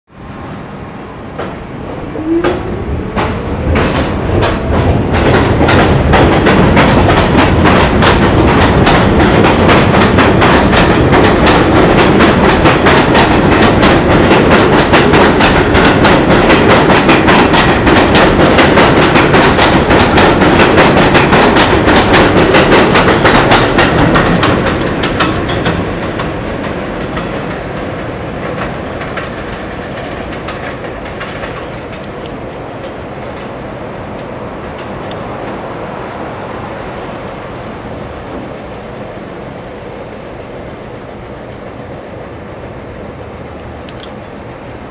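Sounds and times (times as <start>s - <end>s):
subway train wheels clattering: 0.2s - 44.9s.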